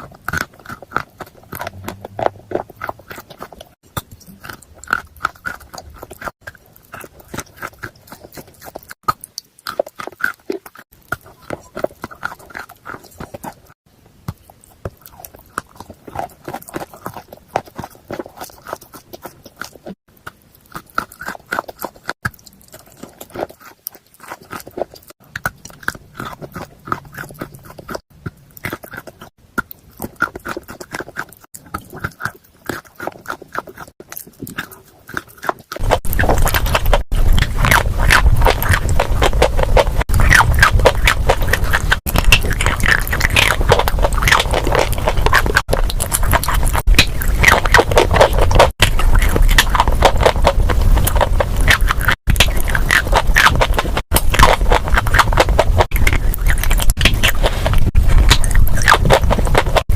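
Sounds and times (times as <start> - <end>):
chewing with crunching: 0.0 - 59.9.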